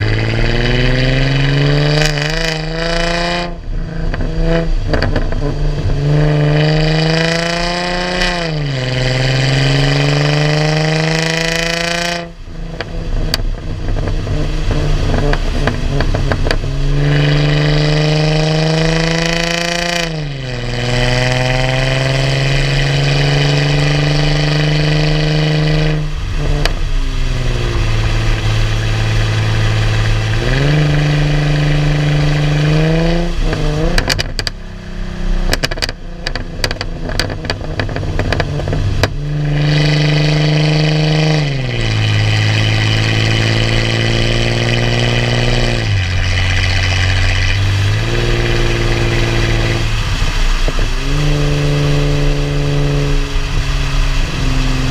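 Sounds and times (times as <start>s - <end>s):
car exhaust note: 0.0s - 54.9s
exhaust crackling and popping: 0.0s - 54.9s.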